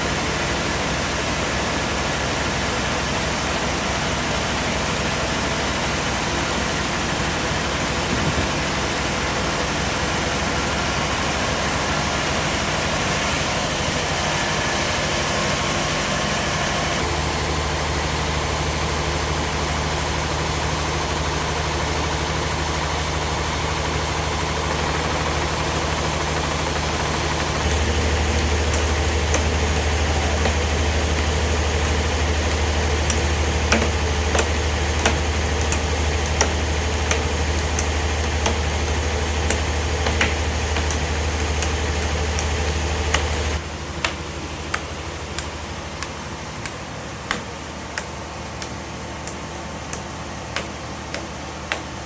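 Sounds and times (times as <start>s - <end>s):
heavy machinery engine running: 0.0s - 52.0s.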